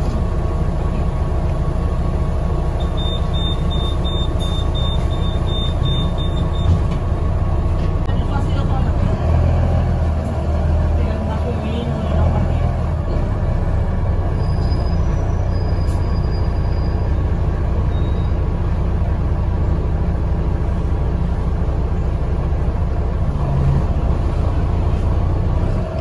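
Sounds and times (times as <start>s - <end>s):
bus engine rumble: 0.0s - 26.0s
road and body noise: 0.0s - 26.0s.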